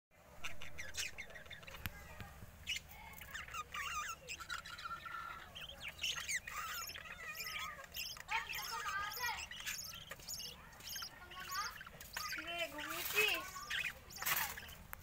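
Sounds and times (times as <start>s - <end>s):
budgerigars chattering: 0.4s - 15.0s.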